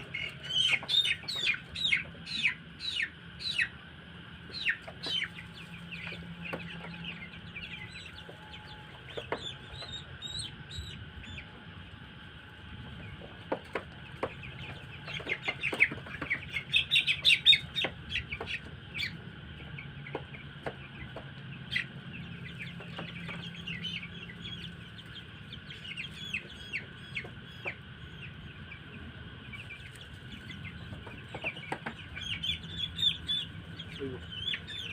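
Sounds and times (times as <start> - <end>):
chicks cheeping: 0.0 - 34.9
steady background hum: 0.0 - 34.9.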